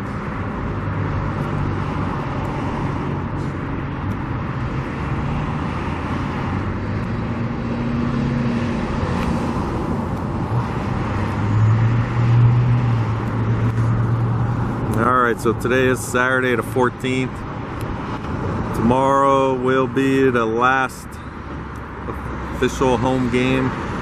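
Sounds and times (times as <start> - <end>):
low engine hum: 0.0 - 24.0
passing cars: 0.0 - 24.0.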